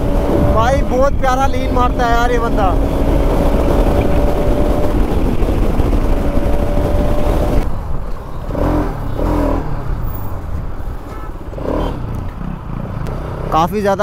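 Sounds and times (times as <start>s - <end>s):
wind rush: 0.0s - 13.0s
motorcycle engine: 0.0s - 14.0s
road noise: 0.0s - 14.0s
traffic noise: 0.0s - 14.0s.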